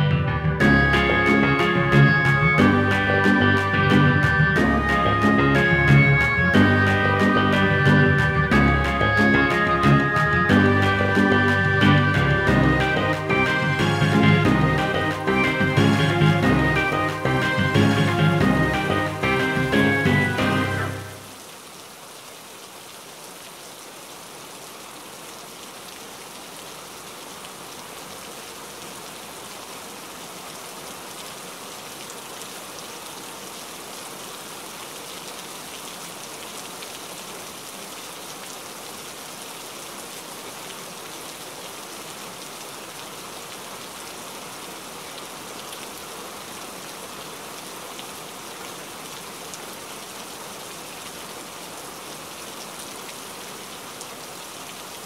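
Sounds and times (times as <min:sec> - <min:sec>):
steady rain hiss: 0:00.6 - 0:55.0.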